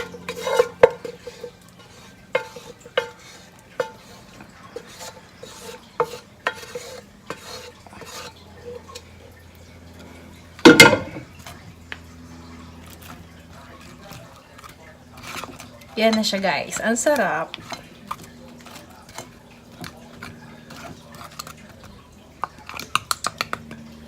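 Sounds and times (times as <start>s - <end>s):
utensil clattering: 0.0s - 9.2s, 10.0s - 11.8s, 12.4s - 24.0s
metal utensil scraping a pan: 0.0s - 11.7s, 12.3s - 24.0s.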